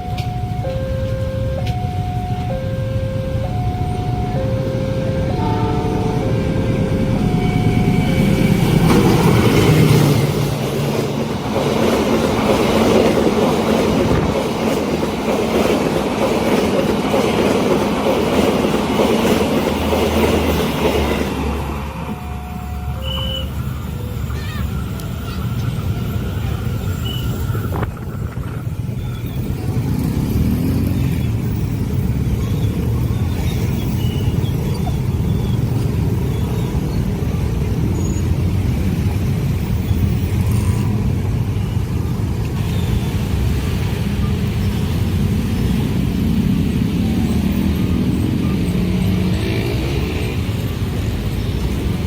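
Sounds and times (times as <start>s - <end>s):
train passing with low rumble: 0.0s - 52.0s.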